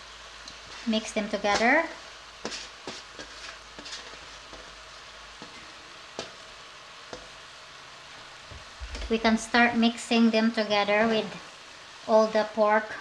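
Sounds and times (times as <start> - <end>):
pot sizzling: 0.0 - 13.0.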